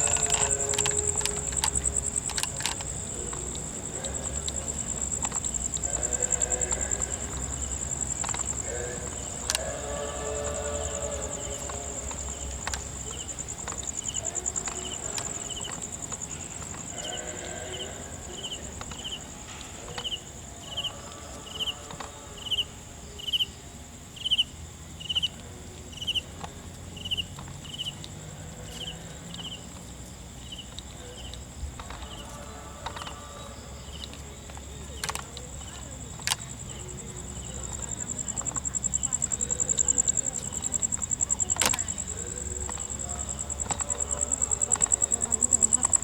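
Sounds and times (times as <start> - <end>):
faint voices: 0.0 - 46.0
insects trilling: 0.0 - 46.0
lower insect chirp: 0.0 - 46.0.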